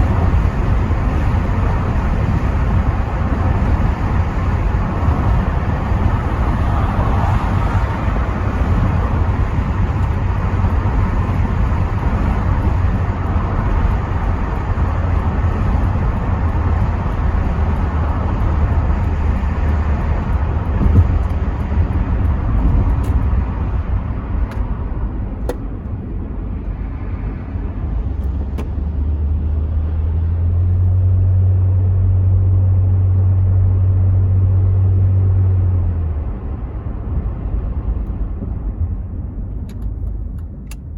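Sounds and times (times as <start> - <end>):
car engine droning: 0.0 - 40.9
road and wind noise: 0.0 - 40.9.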